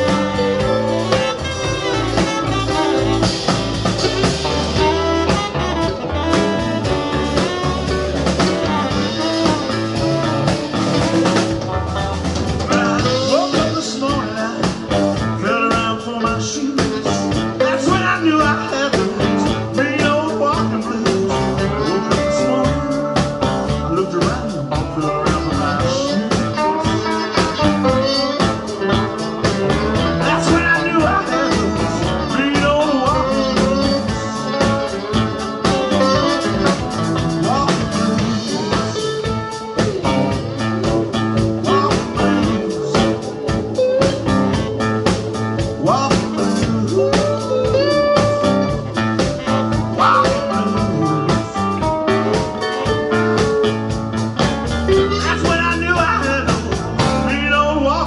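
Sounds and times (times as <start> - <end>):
bending electric guitar lines: 0.0 - 58.0
live blues band playing: 0.0 - 58.0
steady drum beat: 0.0 - 58.0.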